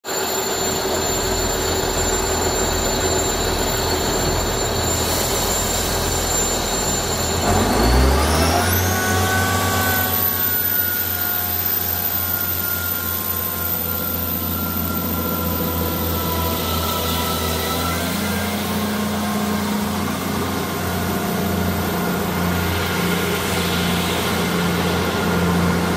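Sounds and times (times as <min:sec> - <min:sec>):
rising whine: 0:00.0 - 0:25.9
train diesel engine: 0:00.0 - 0:25.9.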